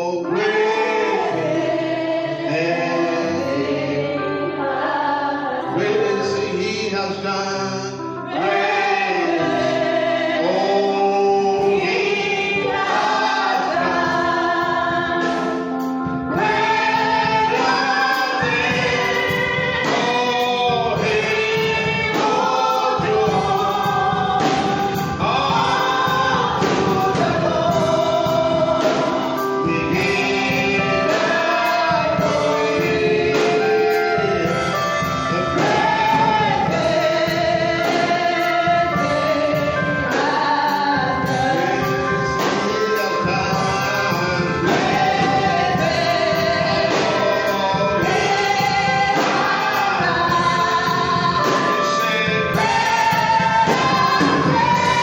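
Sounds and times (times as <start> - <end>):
gospel choir singing: 0.0 - 55.0
instrumental backing with beat: 0.0 - 55.0.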